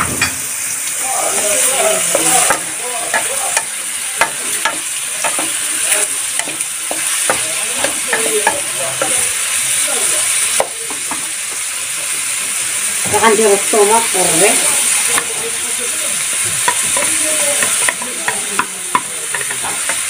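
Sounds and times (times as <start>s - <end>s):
chicken livers sizzling in a pot: 0.0s - 20.0s.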